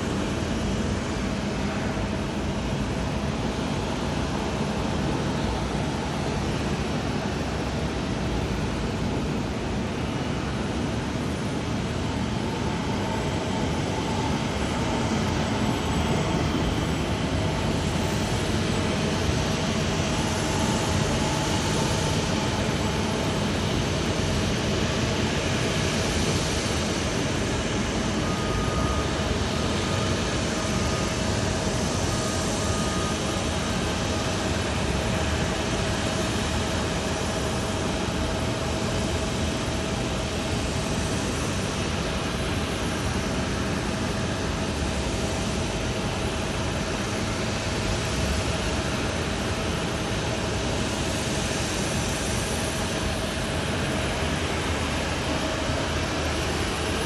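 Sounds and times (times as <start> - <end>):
jet engine hum and whine: 0.0 - 57.0.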